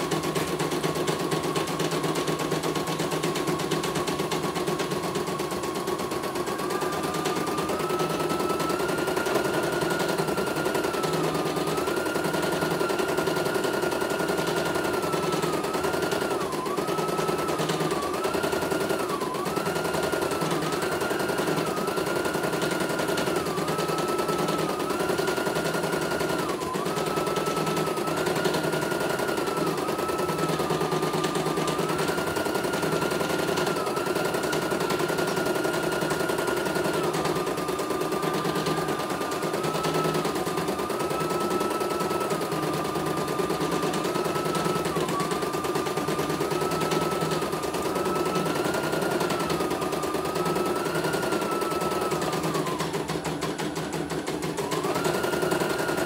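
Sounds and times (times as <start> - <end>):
motor whine: 0.0 - 56.0.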